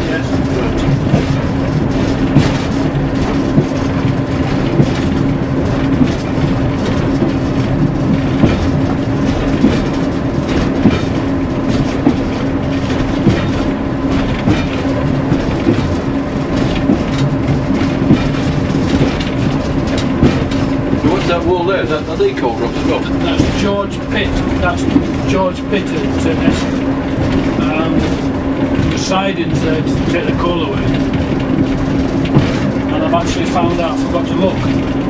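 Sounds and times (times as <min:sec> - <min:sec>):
diesel engine drone: 0:00.0 - 0:35.0
wheels clacking over rail joints: 0:00.0 - 0:35.0.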